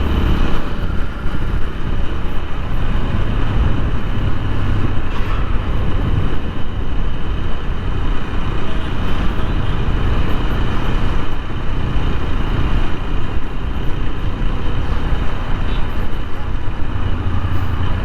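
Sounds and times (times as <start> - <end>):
motorcycle engine: 0.0 - 18.0
road noise: 0.0 - 18.0
wind rushing over microphone: 0.0 - 18.0.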